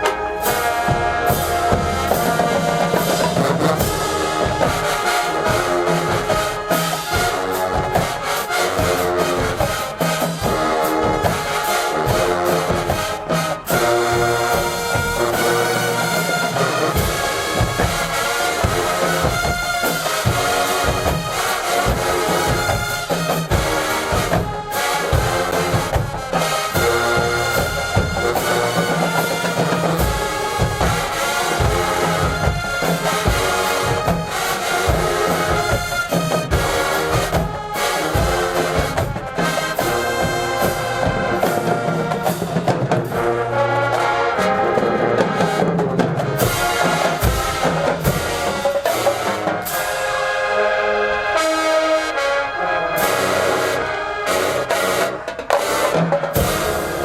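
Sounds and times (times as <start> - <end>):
drums: 0.0 - 57.0
marching band playing: 0.0 - 57.0
trombones and trumpets: 0.0 - 57.0.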